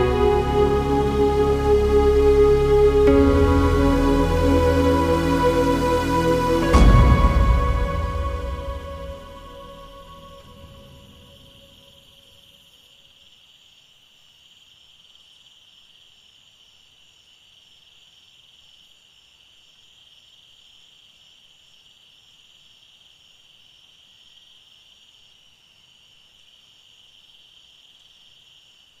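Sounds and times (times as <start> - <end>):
insect chorus trilling: 0.0 - 29.0.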